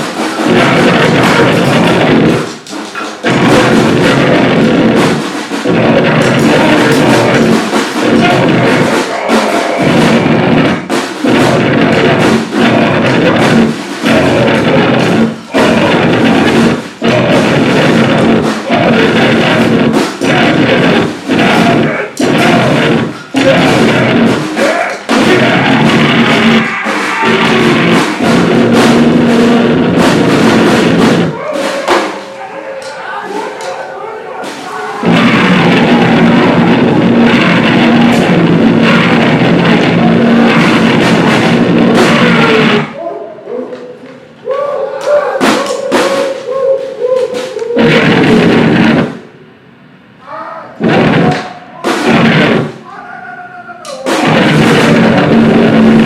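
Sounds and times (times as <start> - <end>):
drum kit pounding: 0.0 - 43.0, 44.5 - 49.6, 50.8 - 52.8, 54.0 - 56.0
distorted noise wall: 0.0 - 56.0.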